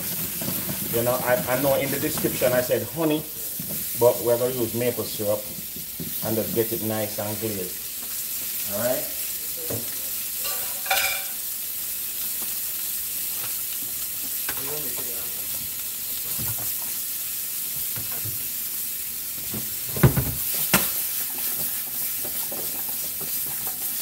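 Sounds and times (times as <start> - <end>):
carrots sizzling in a pan: 0.0 - 24.0.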